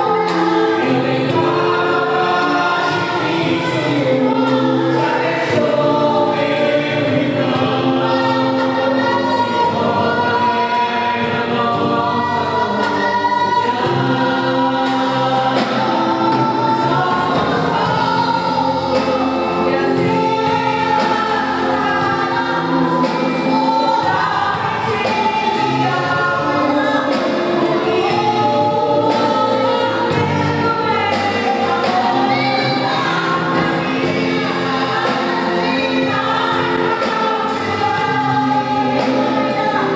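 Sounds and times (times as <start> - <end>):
band accompaniment with steady beat: 0.0 - 39.9
group singing gospel song: 0.0 - 39.9.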